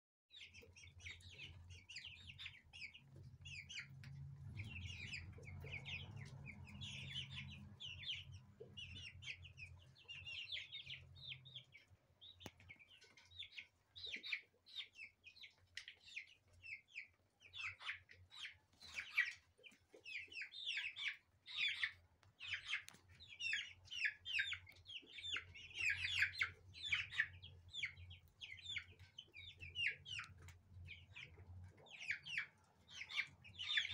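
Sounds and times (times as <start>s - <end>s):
chicks peeping and cheeping: 0.3s - 33.9s.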